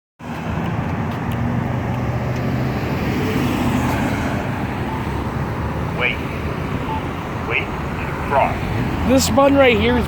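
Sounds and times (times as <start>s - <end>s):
road traffic rumble: 0.2s - 10.0s.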